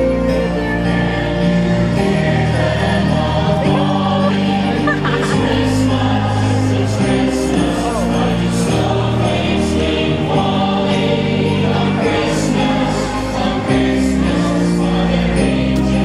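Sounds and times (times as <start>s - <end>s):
choir singing with accompaniment: 0.0s - 16.0s.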